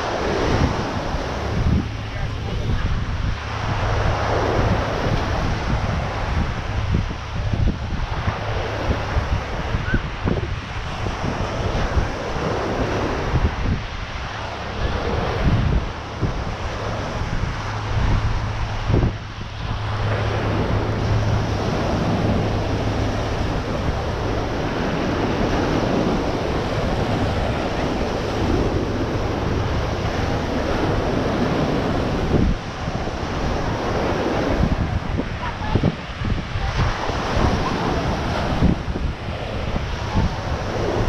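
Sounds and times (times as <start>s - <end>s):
low steady hum: 0.0s - 41.0s
ocean surf washing onto beach: 0.0s - 41.0s
wind on microphone: 0.0s - 41.0s.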